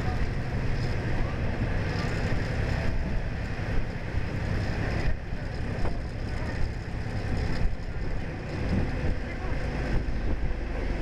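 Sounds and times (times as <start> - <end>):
train wheels rumbling: 0.0 - 11.0
wind buffeting microphone: 0.0 - 11.0.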